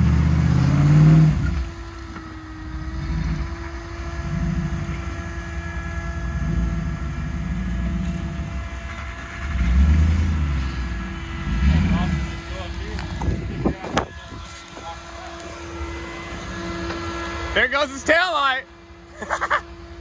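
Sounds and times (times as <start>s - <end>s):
truck engine revving: 0.0s - 20.0s
thin steady whine: 0.7s - 20.0s.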